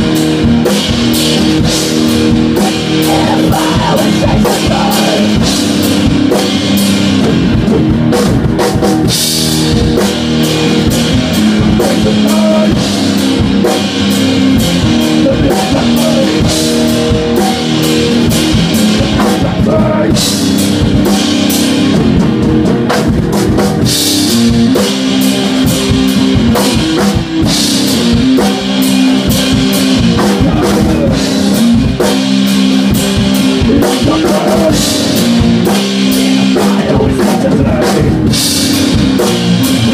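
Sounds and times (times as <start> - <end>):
drum kit with cymbal crashes: 0.0 - 39.9
electric guitar riffs: 0.0 - 39.9.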